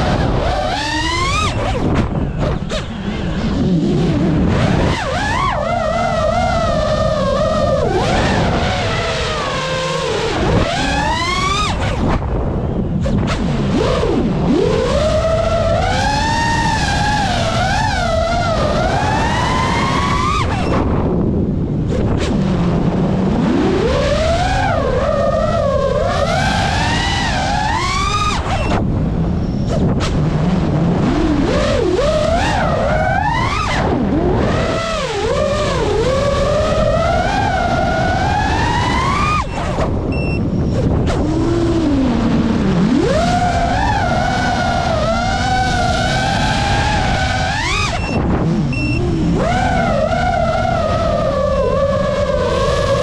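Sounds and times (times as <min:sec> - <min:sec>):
quadcopter motors whining: 0:00.0 - 0:12.4, 0:13.0 - 0:21.2, 0:21.9 - 0:53.0
propeller noise: 0:00.0 - 0:53.0
wind rumbling on microphone: 0:00.0 - 0:53.0.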